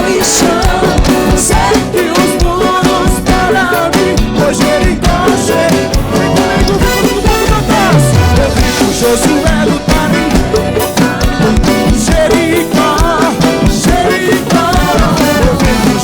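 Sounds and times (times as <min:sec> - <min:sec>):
upbeat gospel band music: 0:00.0 - 0:16.0.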